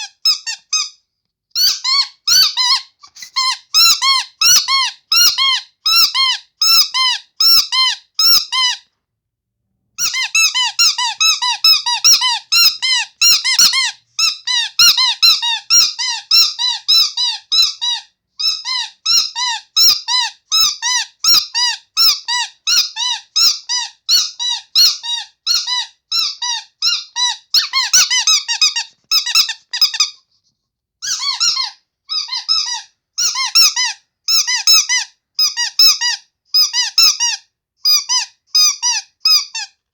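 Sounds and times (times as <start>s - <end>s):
rubber squeaky toy squeaking: 0.0s - 8.9s, 10.0s - 30.4s, 31.0s - 39.8s.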